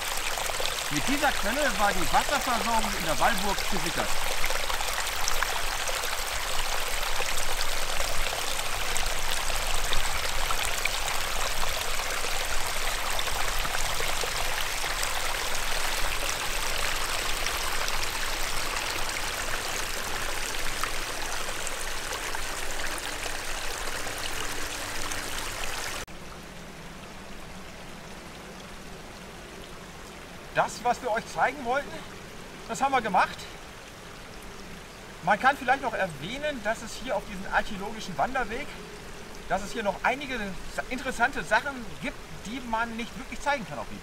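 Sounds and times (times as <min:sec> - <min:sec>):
spring water running: 0:00.0 - 0:26.2, 0:30.2 - 0:44.0.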